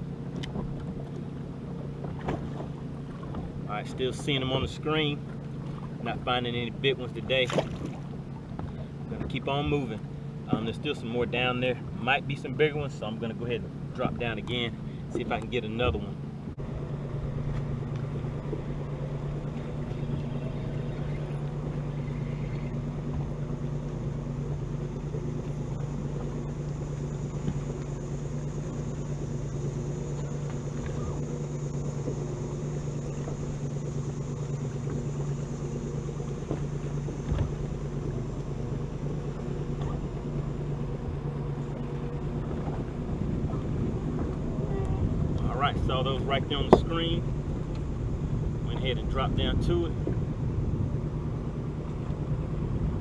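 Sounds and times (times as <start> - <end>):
boat motor running: 0.0 - 53.0.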